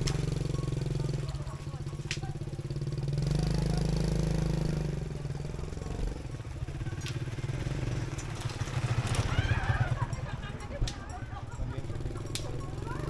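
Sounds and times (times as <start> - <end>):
small motorbike engine passing: 0.0 - 13.0.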